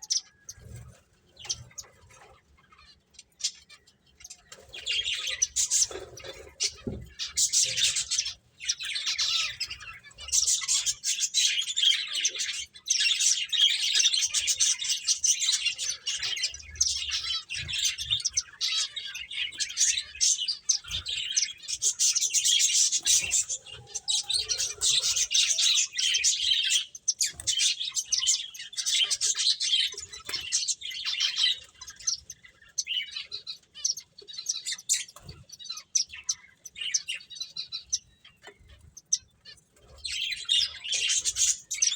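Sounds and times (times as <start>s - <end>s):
finches chirping: 0.0s - 41.9s.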